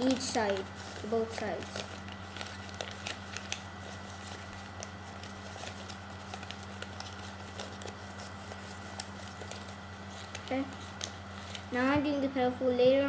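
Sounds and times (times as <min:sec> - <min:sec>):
paper crinkling and folding: 0:00.0 - 0:12.2
low electrical hum: 0:00.0 - 0:13.0.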